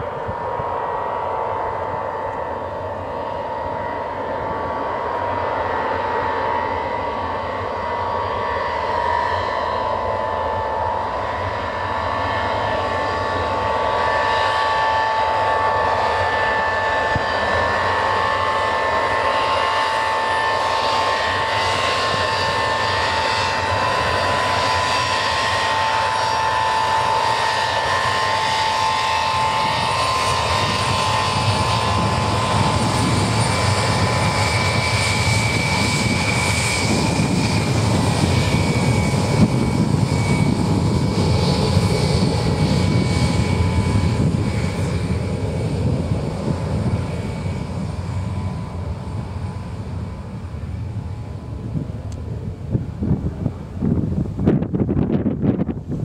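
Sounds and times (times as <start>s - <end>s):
jet airliner taxiing: 0.0s - 56.0s.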